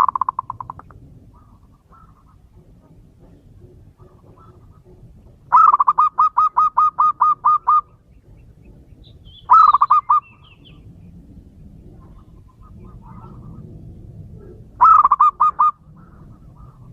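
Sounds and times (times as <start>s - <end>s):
dove cooing: 0.0s - 16.9s.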